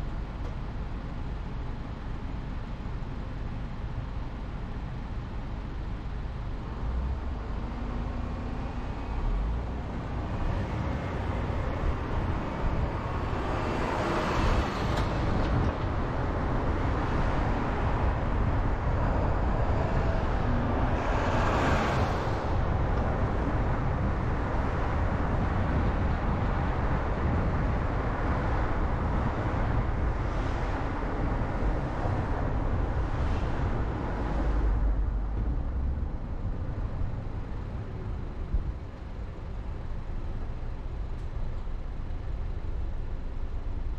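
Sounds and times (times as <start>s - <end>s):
car road and tyre noise: 0.0s - 43.9s
vehicles passing: 6.6s - 43.9s.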